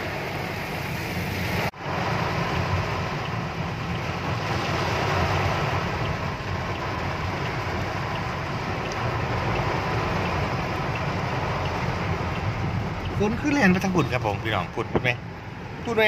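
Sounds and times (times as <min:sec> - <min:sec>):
heavy rain beating on a car: 0:00.0 - 0:16.0
low car rumble: 0:00.0 - 0:16.0.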